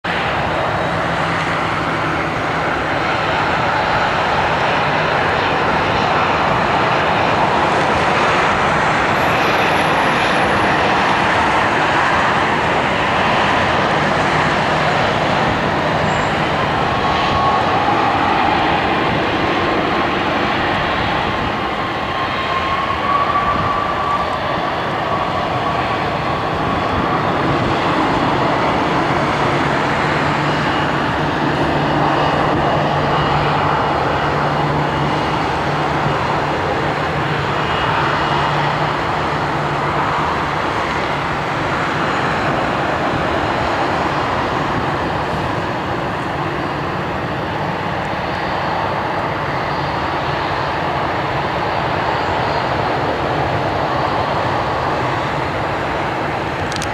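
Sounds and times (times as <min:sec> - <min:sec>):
jet engines whining: 0:00.0 - 0:56.9.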